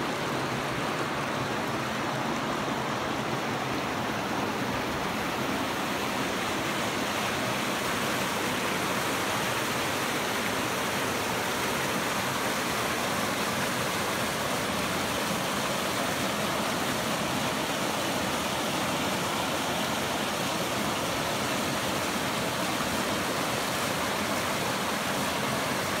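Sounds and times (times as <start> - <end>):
small waterfall rushing: 0.0 - 26.0.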